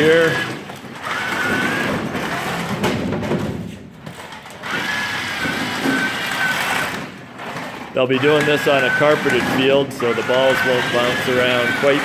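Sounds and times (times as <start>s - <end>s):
electric motors whining: 0.0s - 3.0s, 4.0s - 12.0s.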